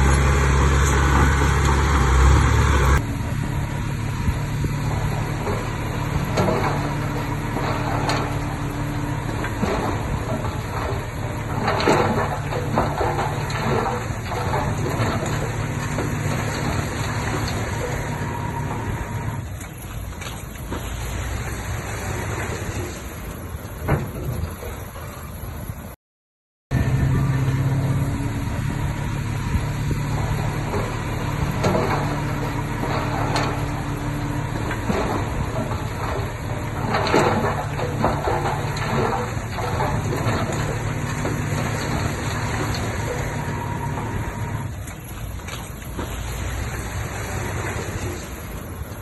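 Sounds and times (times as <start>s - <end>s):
diesel engine running: 0.0s - 26.0s, 26.7s - 49.0s
metallic clanks of tracks: 4.8s - 25.6s, 29.3s - 49.0s.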